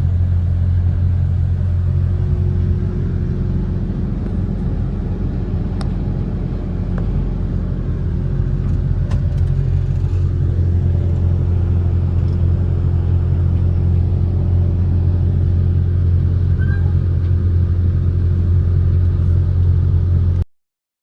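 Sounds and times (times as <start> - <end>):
diesel engine droning: 0.0 - 20.4.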